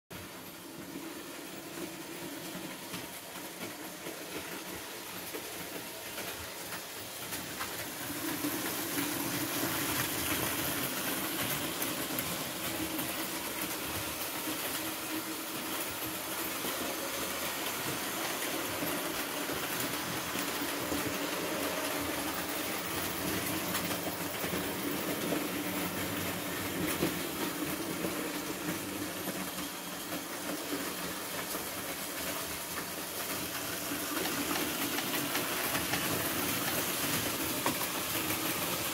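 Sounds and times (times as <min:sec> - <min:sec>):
model train rolling on track: 0:00.2 - 0:38.9.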